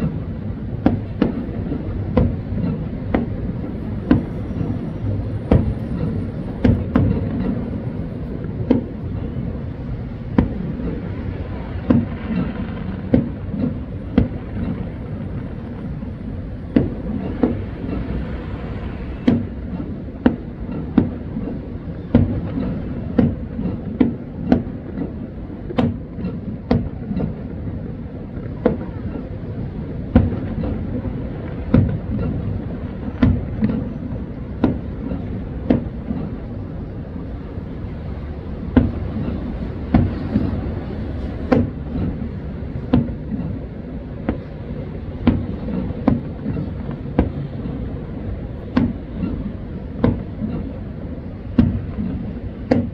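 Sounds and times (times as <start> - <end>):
distant firework bangs: 0.0 - 52.9
steady low rumble: 0.0 - 52.9.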